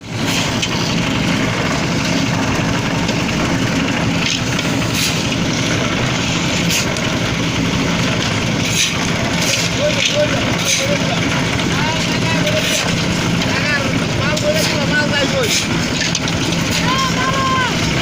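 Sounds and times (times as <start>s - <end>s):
concrete mixer engine running: 0.0s - 18.0s.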